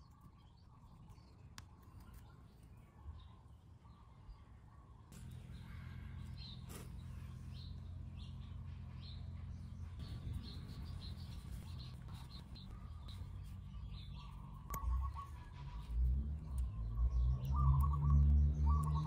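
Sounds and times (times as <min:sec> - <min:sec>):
small birds chirping: 0:00.0 - 0:19.0
low steady hum: 0:02.3 - 0:18.8.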